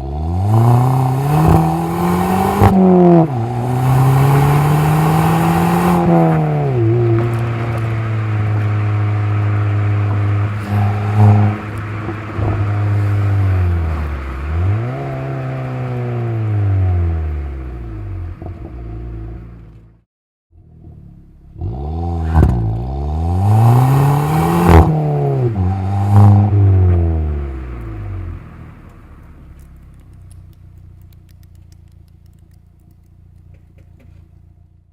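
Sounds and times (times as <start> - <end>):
car engine revving: 0.0 - 20.0, 20.6 - 34.1
exhaust pops and crackles: 0.2 - 16.6, 17.4 - 19.9, 22.2 - 22.9, 24.6 - 34.9.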